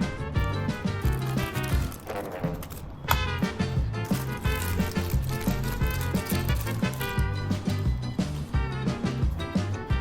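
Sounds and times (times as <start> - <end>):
upbeat music with bouncing beat: 0.0 - 10.0.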